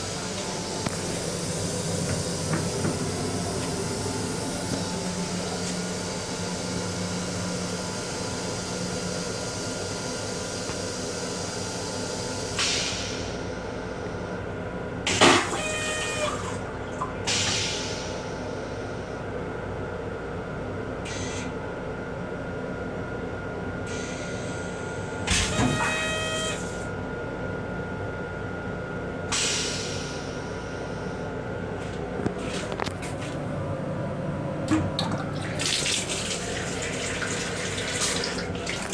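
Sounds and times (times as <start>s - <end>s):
railcar hum and rumble: 0.0s - 38.9s.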